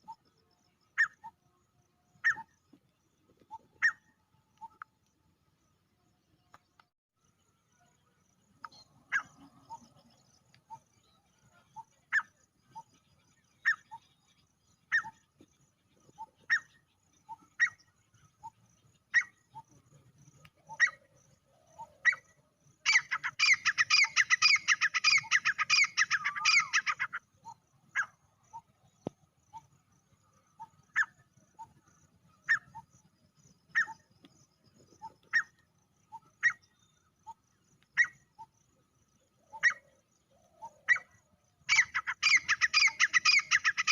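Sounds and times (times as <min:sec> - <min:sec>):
francolin calling: 0:00.0 - 0:01.5, 0:02.1 - 0:02.6, 0:08.6 - 0:15.3, 0:16.1 - 0:19.8, 0:20.4 - 0:28.8, 0:29.5 - 0:43.9.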